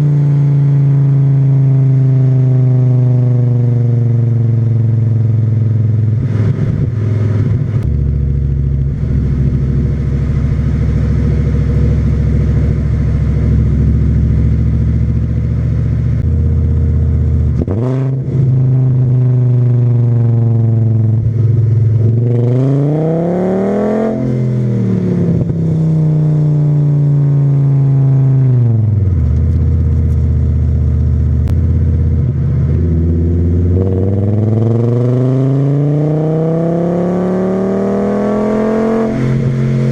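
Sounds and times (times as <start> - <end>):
car exhaust cruising note: 0.0 - 39.9
car engine revving: 2.6 - 39.9.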